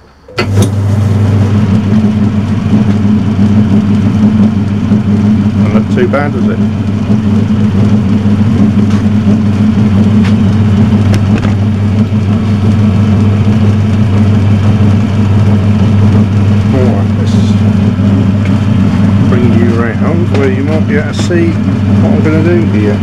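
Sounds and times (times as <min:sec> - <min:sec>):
metal lathe motor hum: 0:00.0 - 0:23.0.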